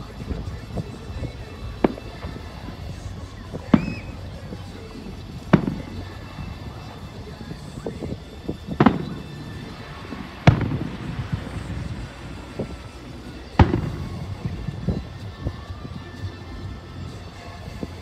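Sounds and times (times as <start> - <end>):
firework shells booming: 0.3 - 15.2.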